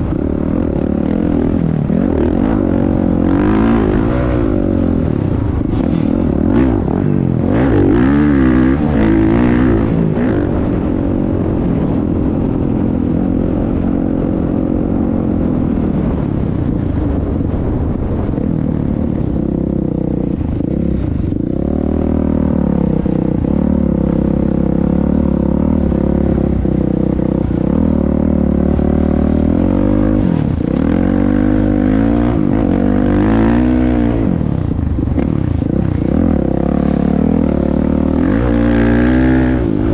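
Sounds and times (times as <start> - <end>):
dirt bike engine revving: 0.0 - 11.9, 19.4 - 39.9.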